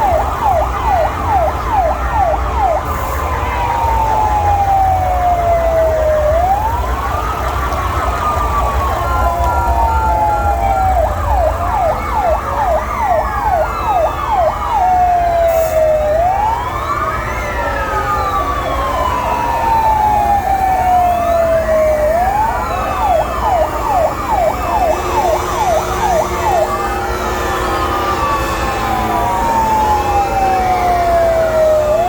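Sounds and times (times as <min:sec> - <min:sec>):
faint sirens sweeping: 0:00.0 - 0:32.0
fire engine siren yelping and wailing: 0:00.0 - 0:32.0.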